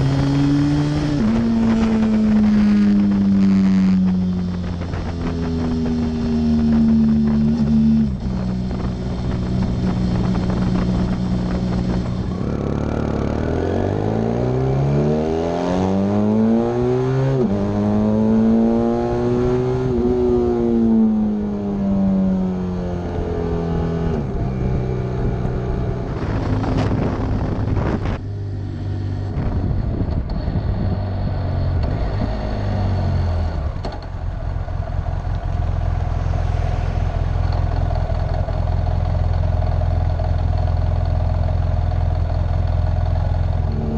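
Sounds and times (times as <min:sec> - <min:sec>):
motorcycle engine revving: 0:00.0 - 0:33.8, 0:42.4 - 0:43.9
wind noise: 0:00.0 - 0:40.8.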